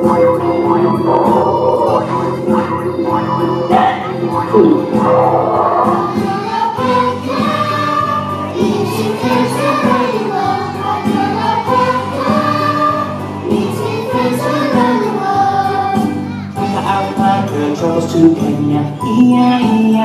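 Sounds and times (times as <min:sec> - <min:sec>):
children singing together: 0:00.0 - 0:17.6
musical accompaniment: 0:00.0 - 0:20.0.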